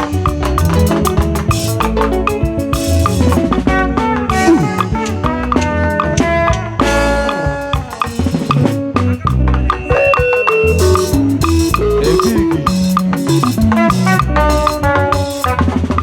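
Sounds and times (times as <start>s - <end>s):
melodic instruments playing: 0.0s - 15.5s
bass line: 0.0s - 16.0s
drum kit steady beat: 0.0s - 16.0s.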